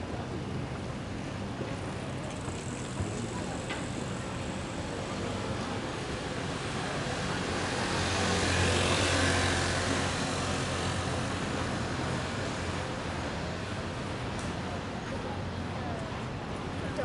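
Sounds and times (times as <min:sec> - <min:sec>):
city background noise: 0:00.0 - 0:17.0.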